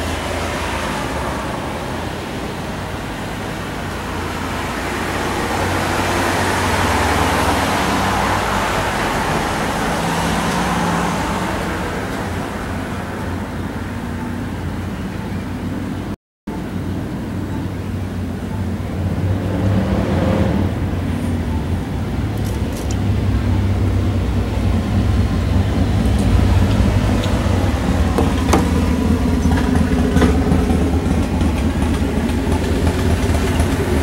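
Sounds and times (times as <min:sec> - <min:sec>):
tyre and road noise: 0:00.0 - 0:34.0
vehicle engine hum: 0:00.0 - 0:34.0.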